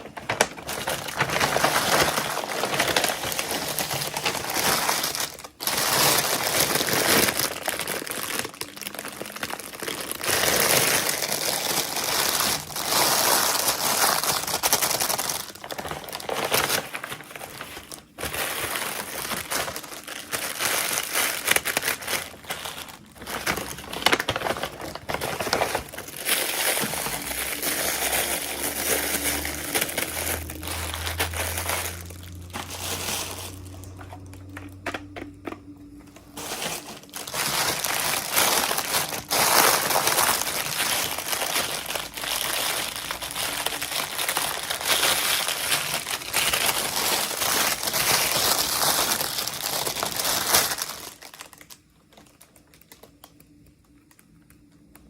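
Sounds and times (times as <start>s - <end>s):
plastic packaging crinkling: 0.0s - 55.0s.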